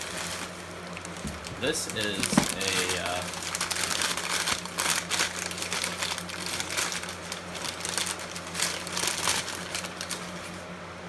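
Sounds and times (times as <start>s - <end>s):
packing material crinkling: 0.0s - 10.7s
low steady hum: 0.0s - 11.0s.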